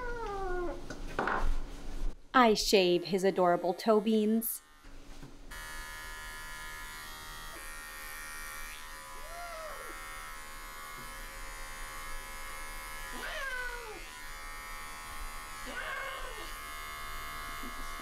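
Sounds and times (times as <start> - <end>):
electric clippers buzzing: 3.5 - 18.0.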